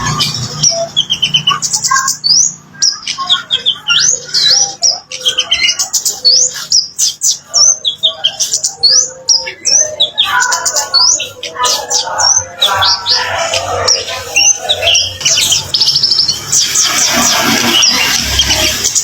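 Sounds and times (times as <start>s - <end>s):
bird chattering trills: 0.0s - 19.0s.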